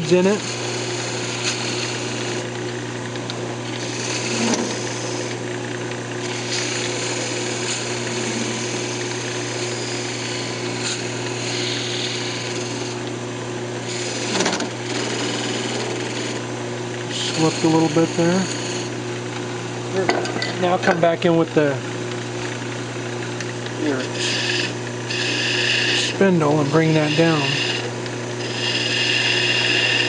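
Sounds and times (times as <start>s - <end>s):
tool scraping spinning wood: 0.0s - 13.1s, 13.8s - 19.4s, 23.6s - 30.0s
wood lathe motor hum: 0.0s - 30.0s.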